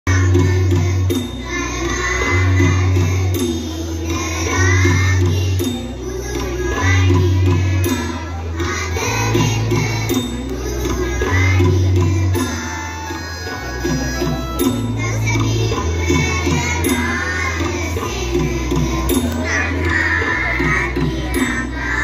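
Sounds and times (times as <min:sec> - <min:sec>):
amplified backing music: 0:00.1 - 0:22.0
children's choir singing: 0:00.1 - 0:22.0.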